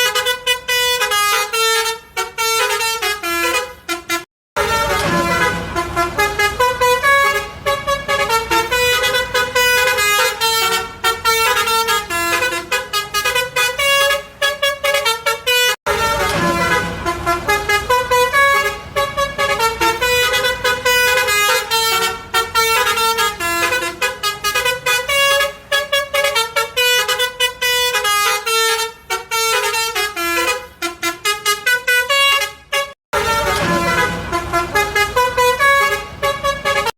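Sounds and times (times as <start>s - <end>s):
multi-tone bus horn melodies: 0.0s - 36.9s.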